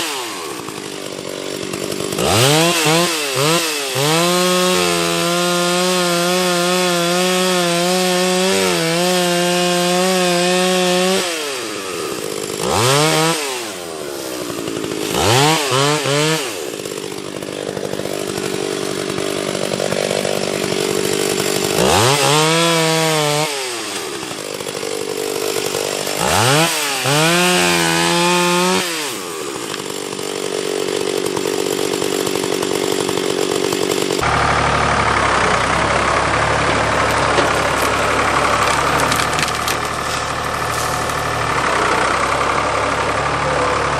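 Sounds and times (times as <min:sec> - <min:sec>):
chainsaw revving: 0:00.0 - 0:43.9.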